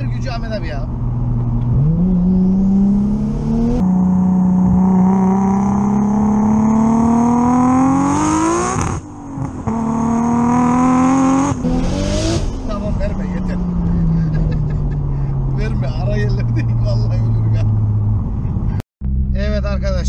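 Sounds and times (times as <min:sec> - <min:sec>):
turbocharged engine accelerating: 0:00.4 - 0:20.0.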